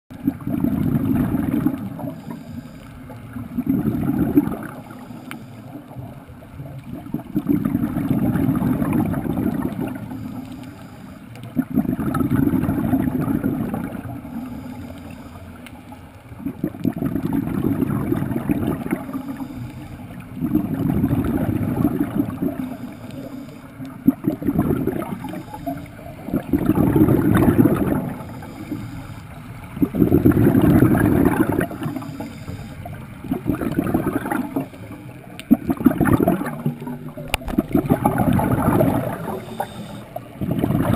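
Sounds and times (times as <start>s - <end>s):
underwater exhaust bubbles: 0.1s - 40.9s.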